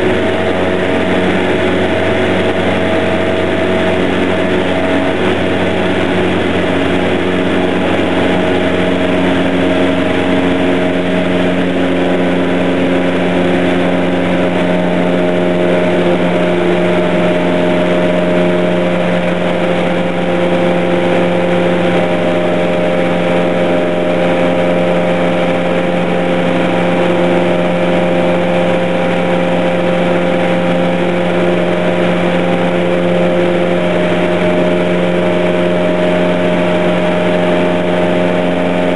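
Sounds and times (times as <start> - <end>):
aircraft engine and propeller droning: 0.0 - 38.9.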